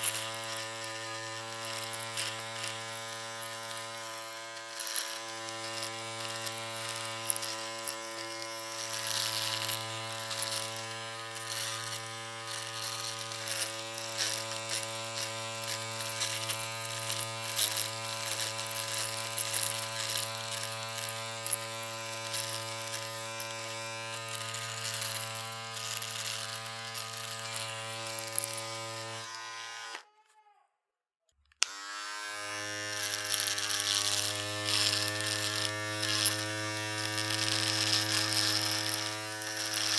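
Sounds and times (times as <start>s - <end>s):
electric shaver buzzing: 0.0s - 30.2s, 31.6s - 39.9s.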